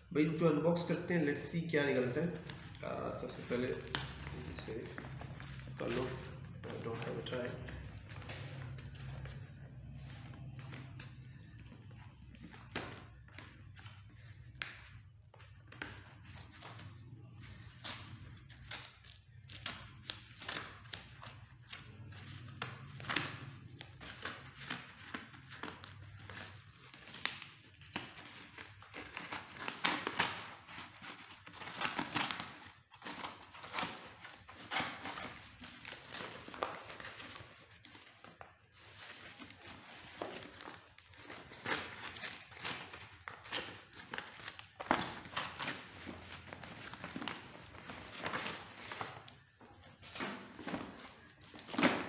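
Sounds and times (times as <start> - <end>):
paper tearing and crumpling: 1.7 - 9.6, 15.4 - 52.0.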